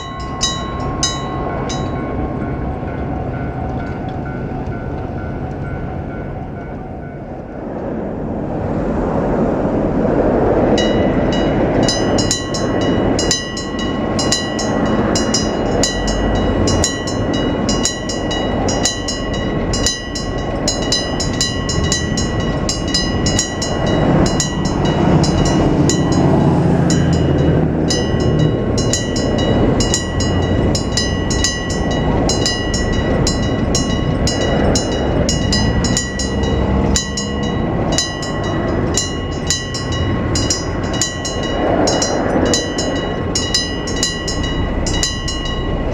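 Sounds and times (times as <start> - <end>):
level-crossing warning bell ringing: 0.0 - 45.9
train passing with low rumble: 0.0 - 45.9.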